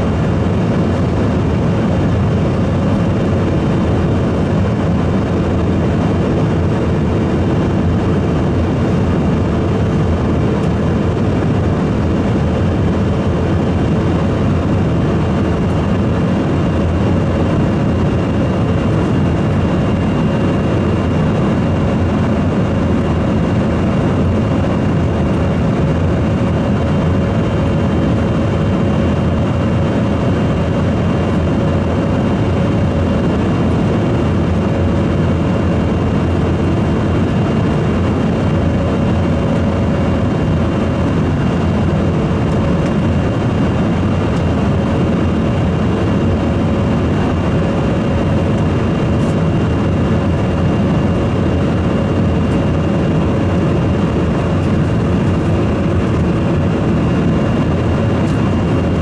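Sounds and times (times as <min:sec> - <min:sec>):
jet engine drone: 0:00.0 - 0:59.0
thin steady whine: 0:00.0 - 0:59.0.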